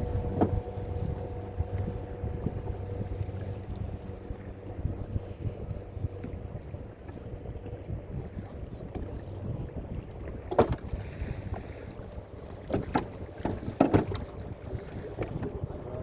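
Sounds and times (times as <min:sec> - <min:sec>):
water wash: 0:00.0 - 0:16.0
wind: 0:00.0 - 0:16.0.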